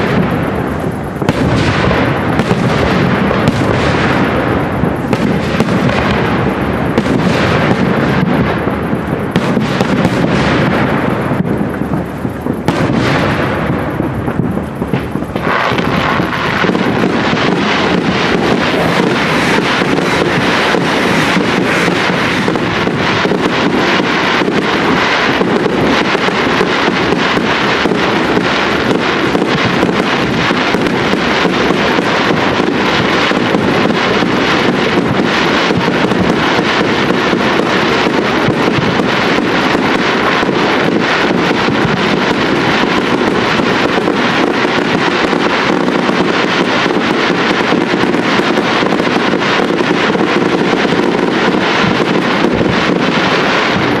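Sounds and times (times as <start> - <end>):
fireworks crackling: 0.0 - 54.0
steady rushing noise: 0.0 - 54.0.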